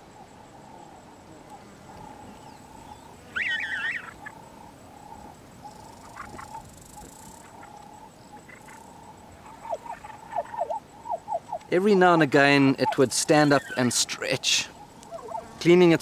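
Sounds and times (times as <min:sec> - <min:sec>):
faint steady-pitch calling: 0:00.0 - 0:15.8
warbling bird call: 0:00.1 - 0:11.8, 0:12.4 - 0:15.6.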